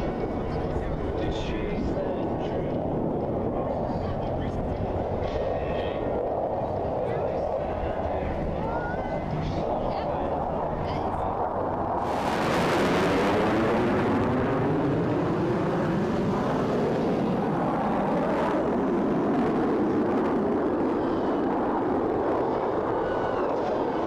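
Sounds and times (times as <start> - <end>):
jets flying past: 0.4 - 24.0.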